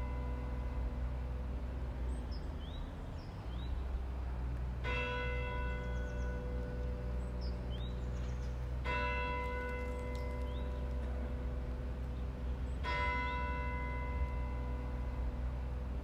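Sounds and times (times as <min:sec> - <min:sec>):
church bell tolling: 0:00.0 - 0:01.8, 0:04.8 - 0:16.0.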